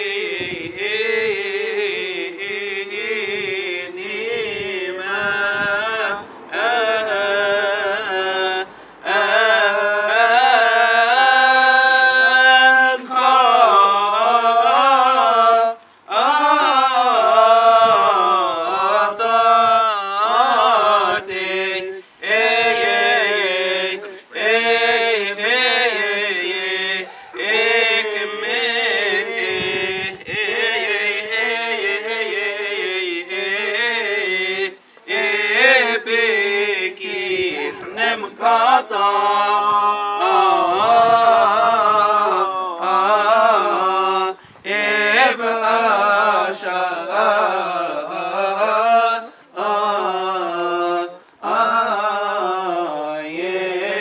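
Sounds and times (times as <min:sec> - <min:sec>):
man chanting unaccompanied: 0:00.0 - 0:54.0.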